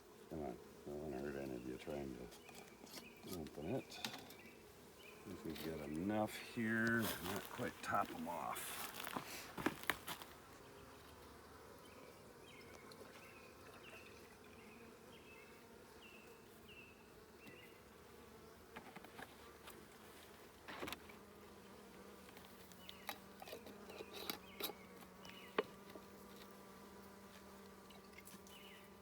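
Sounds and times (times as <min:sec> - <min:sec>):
honeybees buzzing: 0:00.0 - 0:29.0.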